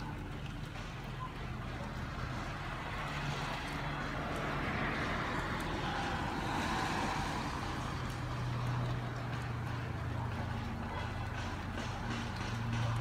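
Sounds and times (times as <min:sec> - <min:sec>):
passing engine drone: 0:01.3 - 0:13.0.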